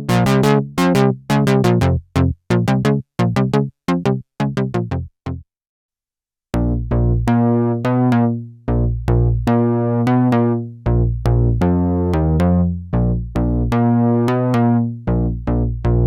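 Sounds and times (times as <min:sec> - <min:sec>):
synthesizer bass line: 0:00.0 - 0:05.4, 0:06.6 - 0:16.0.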